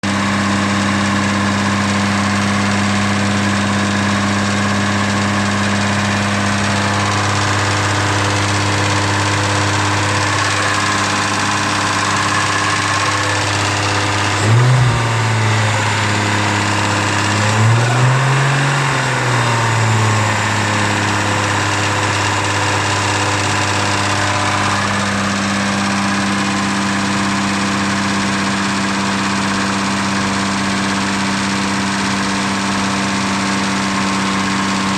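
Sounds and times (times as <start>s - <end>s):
car engine idling and revving: 0.0s - 34.9s
engine rattle: 0.0s - 34.9s.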